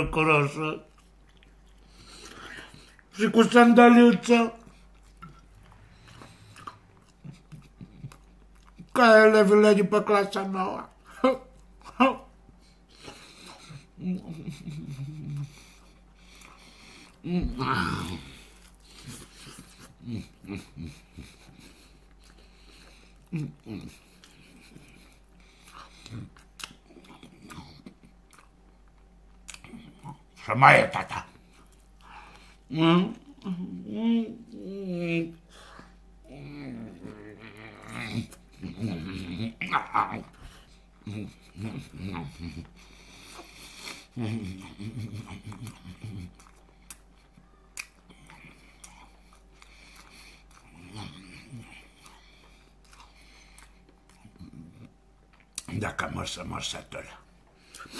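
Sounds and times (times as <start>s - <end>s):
man chewing and lip-smacking: 0.6s - 3.2s, 4.6s - 9.2s, 10.8s - 30.4s, 31.1s - 55.8s, 57.2s - 57.9s.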